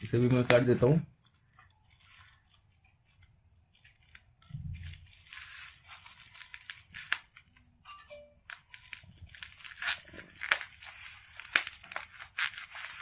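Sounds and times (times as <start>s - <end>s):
packaging crinkling and rustling: 0.0s - 7.8s, 8.5s - 13.0s.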